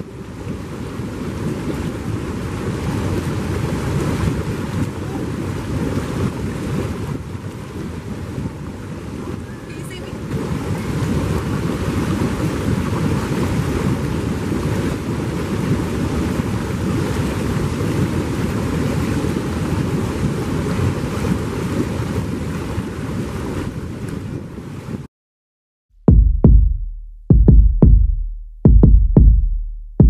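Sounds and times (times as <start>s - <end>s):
hot tub jets churning water: 0.0s - 24.9s.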